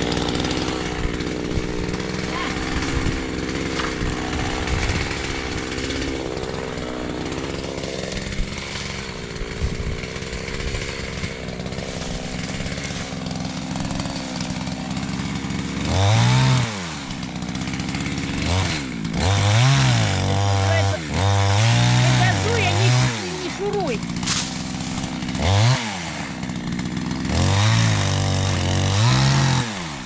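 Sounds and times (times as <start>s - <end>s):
chainsaw idling and revving: 0.0s - 30.0s.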